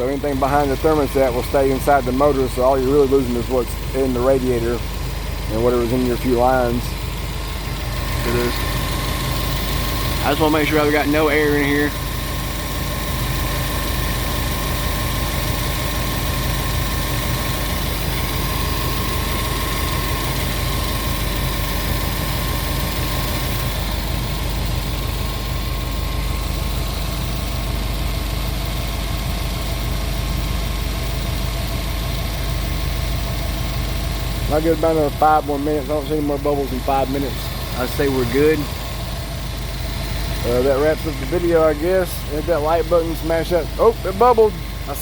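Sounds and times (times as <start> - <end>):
car engine idling: 0.0 - 45.0.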